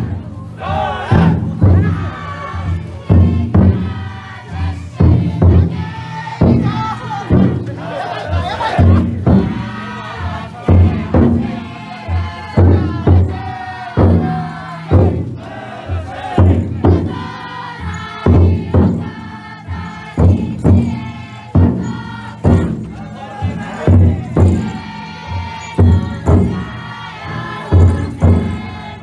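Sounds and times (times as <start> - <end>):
big drum beaten heavily: 0.0 - 29.0
people chanting in unison: 0.0 - 29.0.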